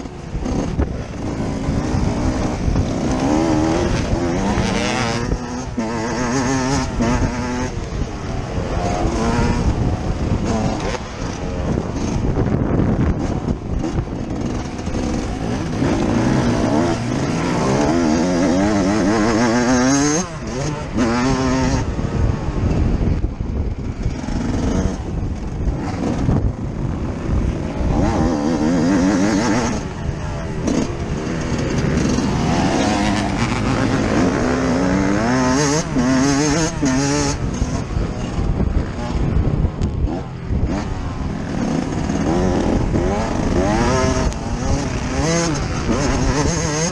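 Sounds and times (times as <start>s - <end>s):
motocross engine revving: 0.0s - 46.9s.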